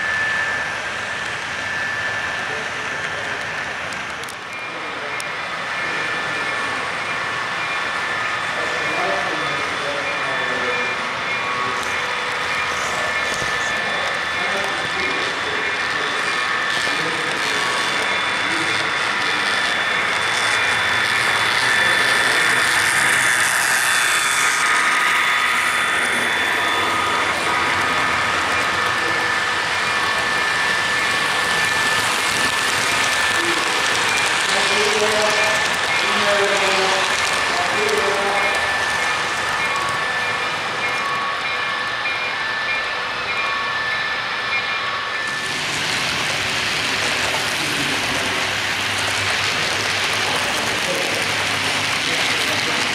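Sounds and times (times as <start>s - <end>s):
model train rumbling on rails: 0.0s - 52.9s
thin steady whine: 0.0s - 52.9s.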